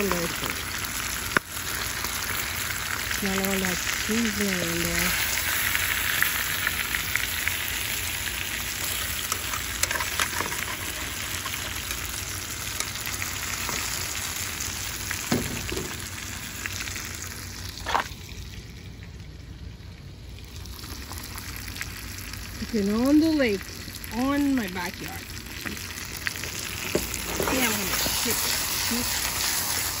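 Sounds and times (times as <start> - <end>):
curry sizzling and bubbling: 0.0 - 30.0.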